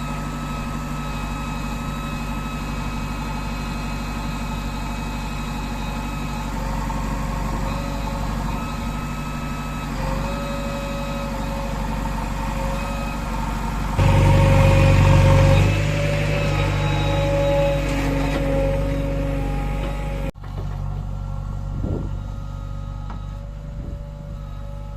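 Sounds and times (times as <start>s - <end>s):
heavy machinery diesel engine: 0.0s - 24.9s.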